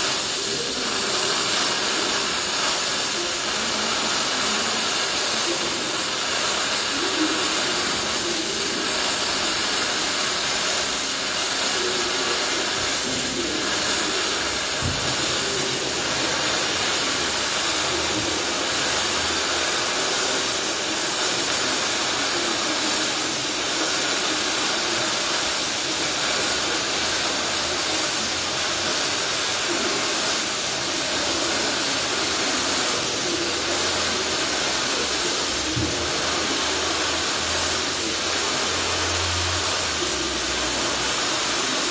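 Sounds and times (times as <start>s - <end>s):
welding arc hissing: 0.0s - 41.9s.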